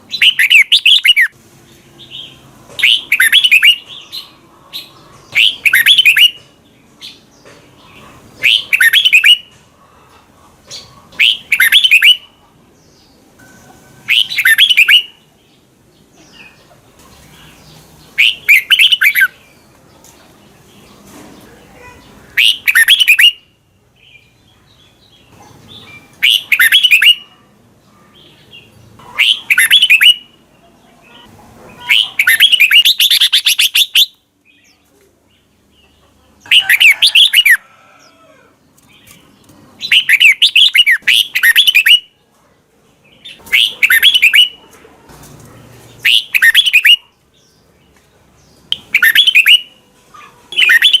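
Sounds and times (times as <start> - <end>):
bird singing warbling phrases: 0.0 - 1.4, 2.0 - 9.6, 10.7 - 38.1, 38.8 - 42.2, 43.0 - 44.7, 45.9 - 51.0.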